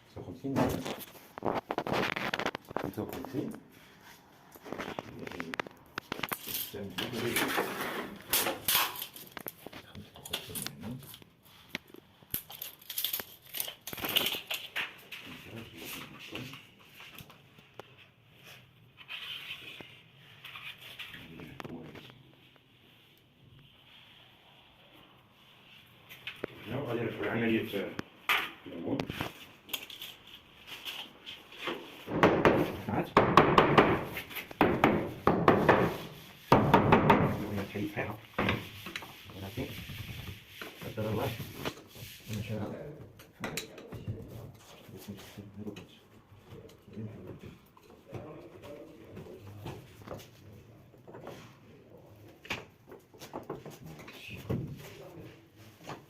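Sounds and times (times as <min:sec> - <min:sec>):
tools and materials handling noises: 0:00.2 - 0:24.2, 0:24.8 - 0:33.2, 0:34.0 - 0:56.0.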